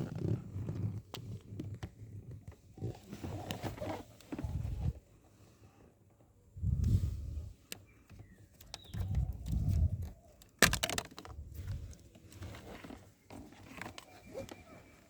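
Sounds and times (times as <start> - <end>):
handling bumps and scrapes: 0.0 - 5.0, 6.6 - 15.0.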